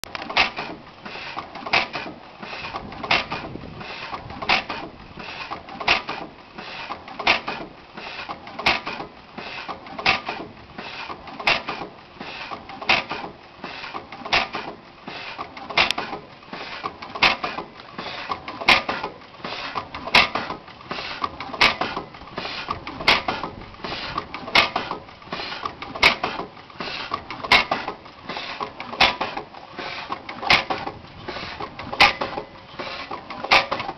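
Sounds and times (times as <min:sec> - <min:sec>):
hit-and-miss gas engine running: 0:00.0 - 0:33.9.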